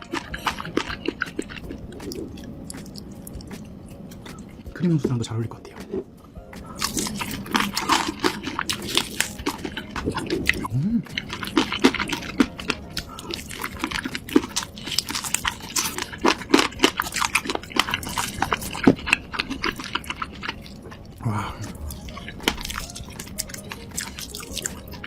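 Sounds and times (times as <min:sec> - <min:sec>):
chewing food: 0:00.0 - 0:04.8, 0:05.6 - 0:25.0.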